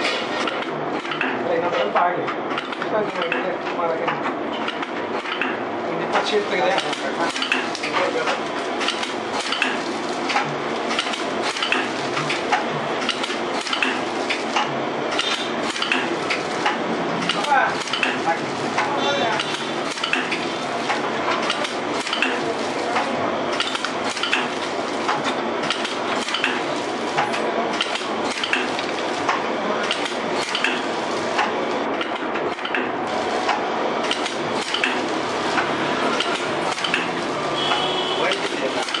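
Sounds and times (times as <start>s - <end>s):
packing machine clattering: 0.0s - 39.0s.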